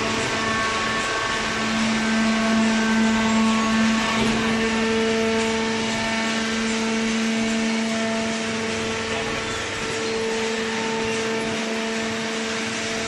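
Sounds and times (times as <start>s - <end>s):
motor and pump hum with whine: 0.0s - 13.0s.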